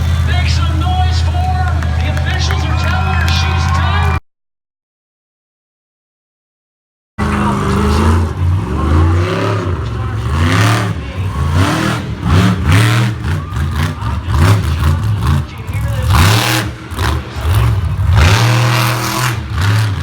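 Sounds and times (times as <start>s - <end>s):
monster truck engine revving: 0.0s - 4.2s, 7.2s - 20.0s.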